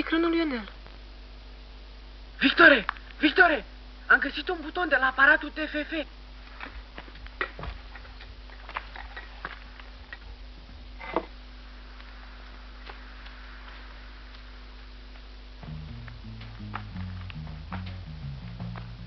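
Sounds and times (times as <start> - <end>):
film soundtrack hum and hiss: 0.0 - 19.0.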